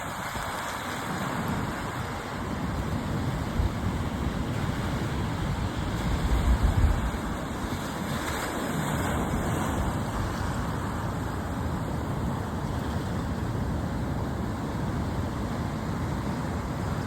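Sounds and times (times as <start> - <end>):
sea surf washing in: 0.0 - 17.0.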